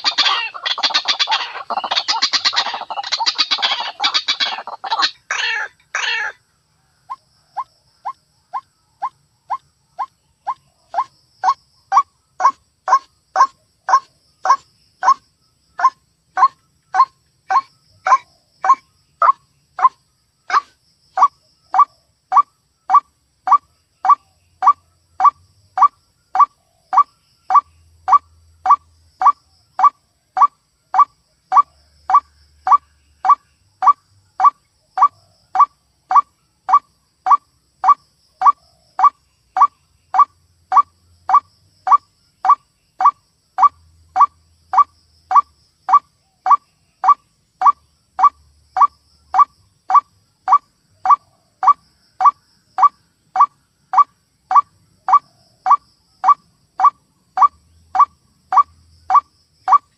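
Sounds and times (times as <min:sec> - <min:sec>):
harsh repeated bird call: 0:00.0 - 0:06.4, 0:09.5 - 0:15.2, 0:15.8 - 0:59.9.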